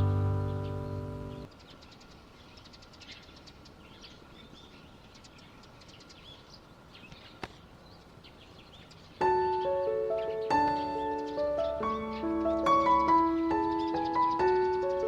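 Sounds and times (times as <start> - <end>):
high bird chirps: 0.0 - 7.4, 8.3 - 15.0.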